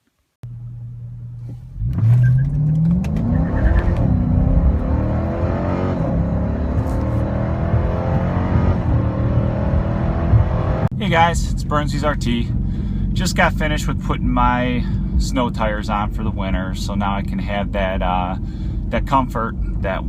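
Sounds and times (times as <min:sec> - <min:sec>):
car engine accelerating: 0:00.4 - 0:19.1.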